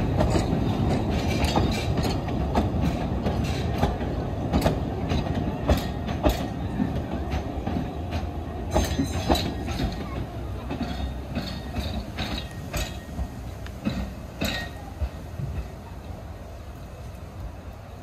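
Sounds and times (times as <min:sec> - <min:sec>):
wheels clicking over rail joints: 0:00.0 - 0:17.9
train carriages rumbling past: 0:00.0 - 0:18.0.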